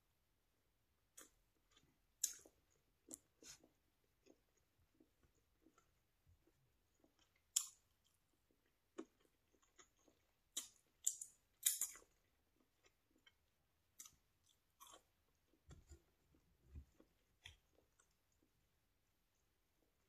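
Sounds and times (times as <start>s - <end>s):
faint chewing: 1.1s - 18.7s.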